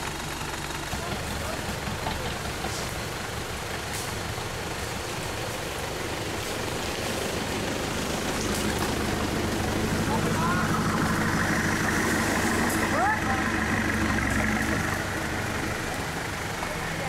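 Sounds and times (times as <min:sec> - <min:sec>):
truck engines idling: 0:00.0 - 0:17.0.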